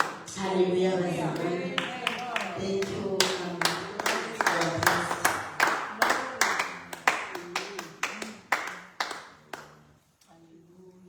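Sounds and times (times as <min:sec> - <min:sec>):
people clapping: 0:00.0 - 0:09.9
soft voices: 0:00.0 - 0:11.0.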